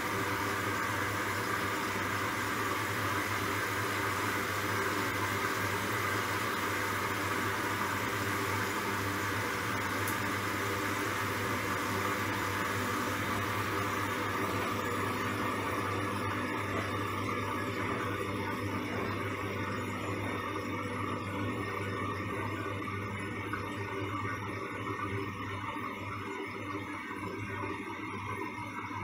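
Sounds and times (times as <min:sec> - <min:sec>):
washing machine motor hum: 0:00.0 - 0:29.0
water sloshing in washing machine: 0:00.0 - 0:29.0.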